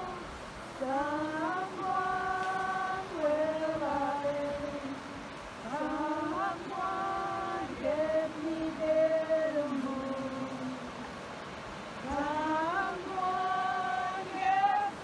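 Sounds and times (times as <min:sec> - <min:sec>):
woman singing chant-like prayer: 0:00.0 - 0:11.1, 0:12.0 - 0:15.0.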